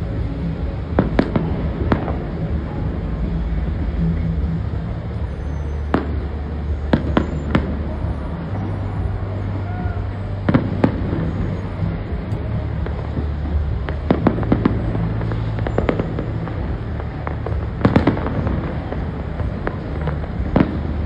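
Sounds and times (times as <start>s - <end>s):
fireworks bangs: 0.0s - 21.0s
low rumble: 0.0s - 21.0s.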